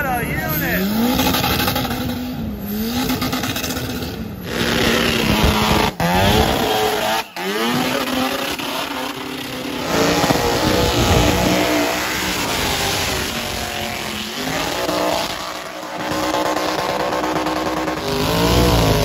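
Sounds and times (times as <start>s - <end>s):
engines revving hard: 0.0s - 19.0s.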